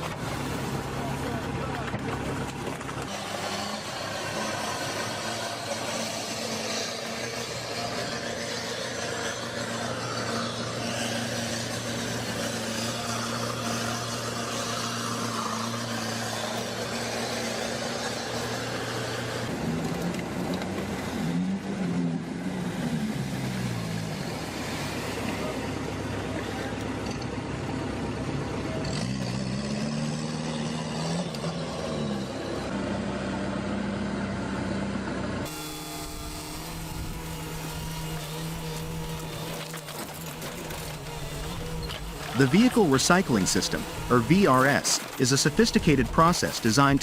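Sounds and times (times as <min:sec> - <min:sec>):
diesel engine revving: 0:00.0 - 0:47.0.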